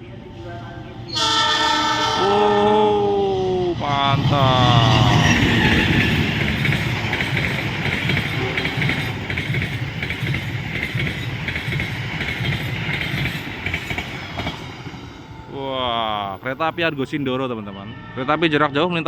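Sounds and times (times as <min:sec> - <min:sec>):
train wheels roaring on rails: 0:00.0 - 0:17.7.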